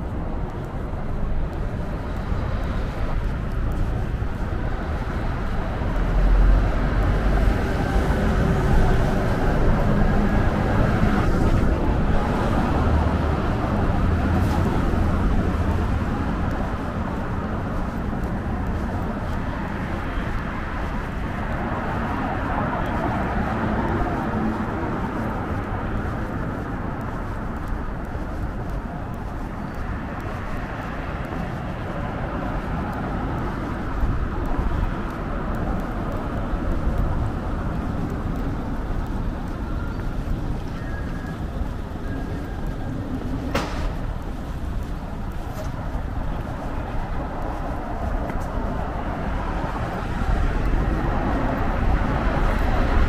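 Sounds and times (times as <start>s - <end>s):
cars passing: 0.0s - 53.0s
low traffic rumble: 0.0s - 53.0s.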